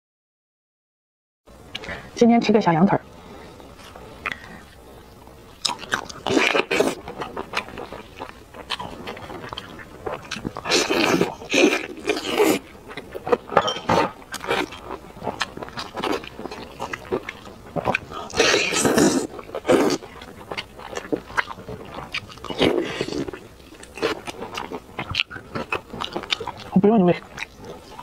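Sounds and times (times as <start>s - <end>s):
person chewing meat: 3.7s - 28.0s.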